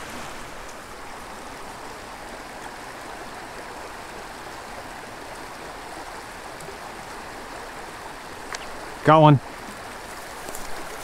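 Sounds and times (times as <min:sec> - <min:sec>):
creek babbling over rocks: 0:00.0 - 0:11.0.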